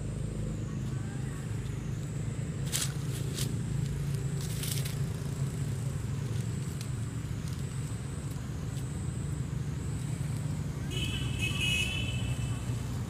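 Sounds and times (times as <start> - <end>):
dry leaves crackling: 0.0 - 13.0
low mechanical hum: 0.0 - 13.0.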